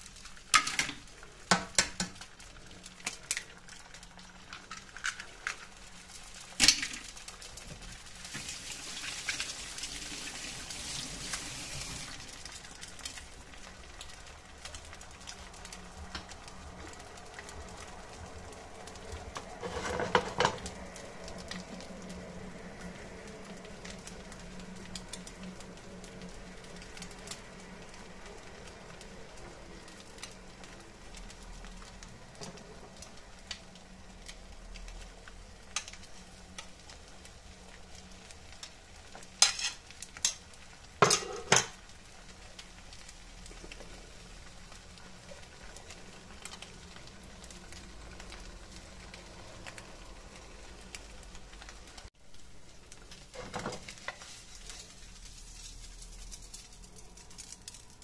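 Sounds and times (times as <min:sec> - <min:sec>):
eggs sizzling in a pan: 0:00.0 - 0:58.0.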